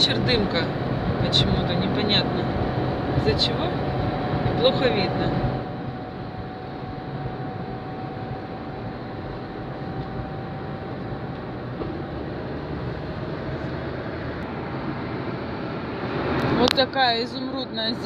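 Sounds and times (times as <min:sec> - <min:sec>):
faint steady whine: 0:00.0 - 0:18.0
road and engine noise in car: 0:00.0 - 0:18.0.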